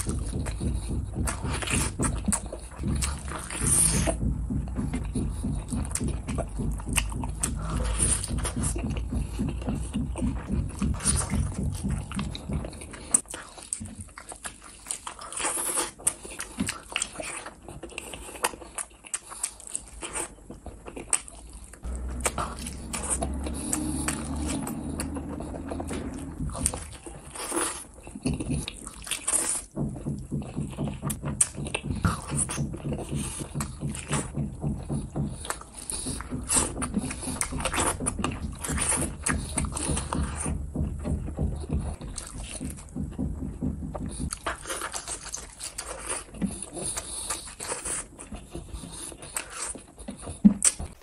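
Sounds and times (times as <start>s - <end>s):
eggs bitten and chewed: 0.0s - 51.0s
mouth clicks and smacks: 0.0s - 51.0s.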